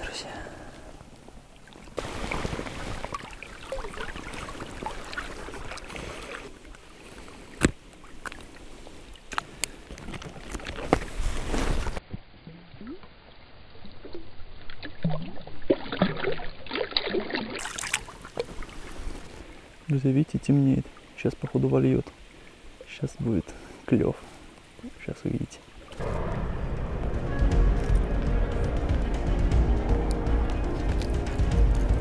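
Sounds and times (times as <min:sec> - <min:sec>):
water splashing and sloshing: 0:00.0 - 0:32.0.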